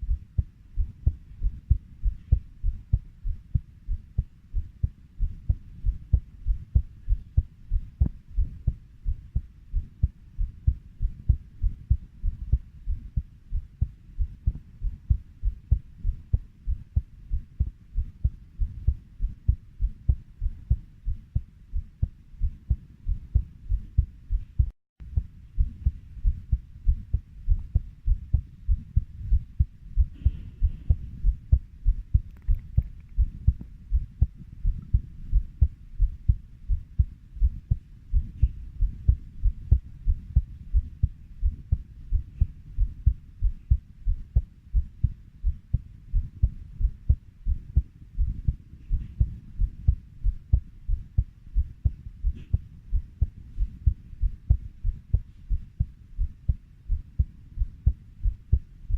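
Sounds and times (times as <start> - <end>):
heartbeat thumps: 0.0 - 58.9.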